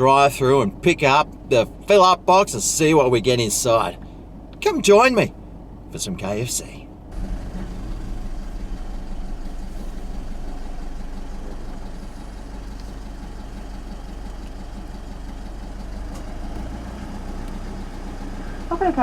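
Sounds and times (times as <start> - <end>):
car engine rumble from inside cabin: 0.0 - 19.0.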